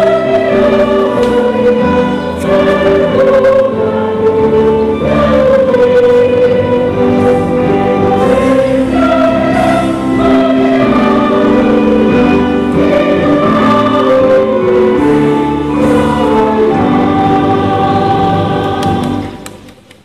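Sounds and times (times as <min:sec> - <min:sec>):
choir singing slow song: 0:00.0 - 0:19.6
musical accompaniment: 0:00.0 - 0:20.0.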